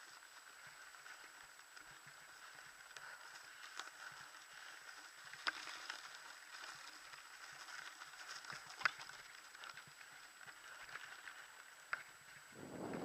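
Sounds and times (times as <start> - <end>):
bike rattles and clicks: 0.0 - 13.0
bike tyre and drivetrain noise: 0.0 - 13.0.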